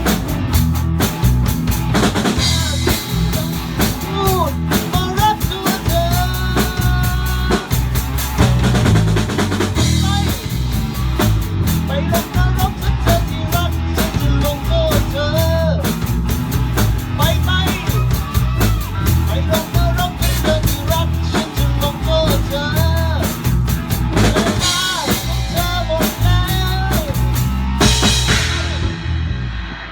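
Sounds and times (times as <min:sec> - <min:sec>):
bass drum and snare hits: 0:00.0 - 0:29.8
band playing live: 0:00.0 - 0:29.9
guitars: 0:00.0 - 0:29.9.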